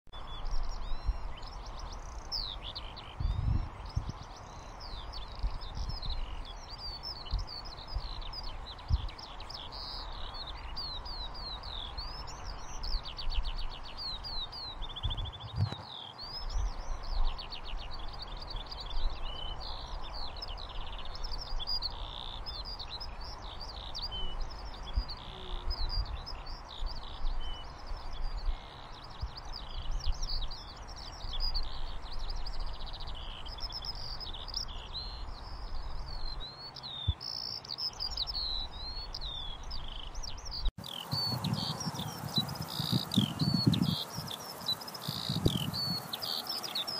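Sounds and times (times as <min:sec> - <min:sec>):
skylark singing: 0:00.2 - 0:46.9.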